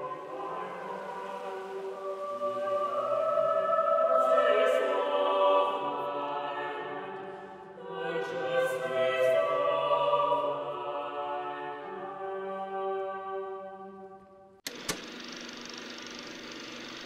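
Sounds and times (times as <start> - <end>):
mixed choir singing chords: 0.0 - 14.2.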